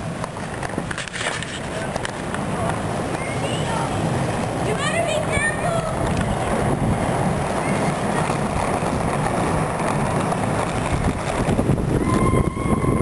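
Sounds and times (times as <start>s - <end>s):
skate wheels rolling on concrete: 0.0s - 13.0s
wind buffeting microphone: 0.0s - 13.0s.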